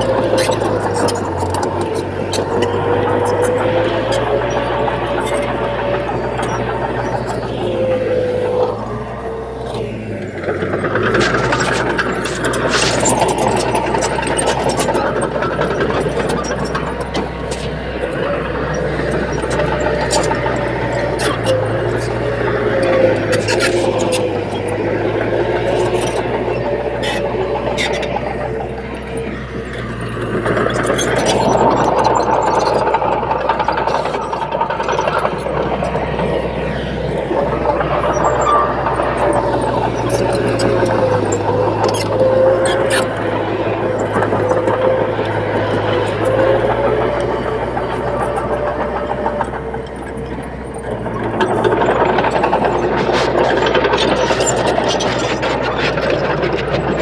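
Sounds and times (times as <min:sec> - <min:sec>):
diesel engine running: 0:00.0 - 0:57.0
machine squeal: 0:00.0 - 0:57.0.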